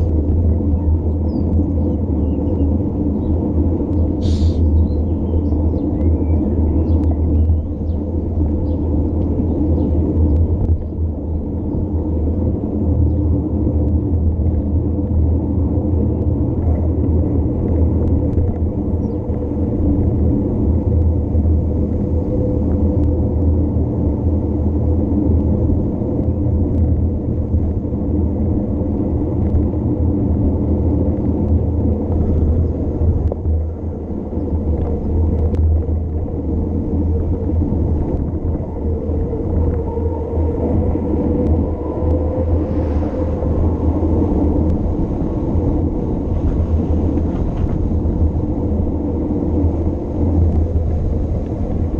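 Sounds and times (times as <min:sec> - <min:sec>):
wind rumbling on microphone: 0:00.0 - 0:51.9.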